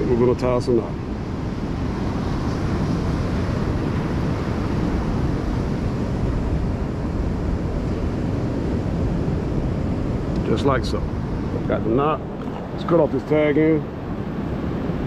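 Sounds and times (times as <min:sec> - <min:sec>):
low rumbling wind noise: 0:00.0 - 0:15.0.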